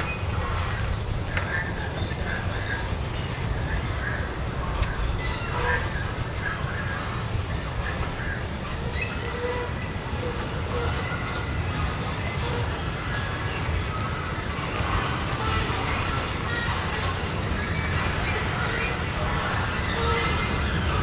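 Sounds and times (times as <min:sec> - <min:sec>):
train rumbling on tracks: 0:00.0 - 0:21.0.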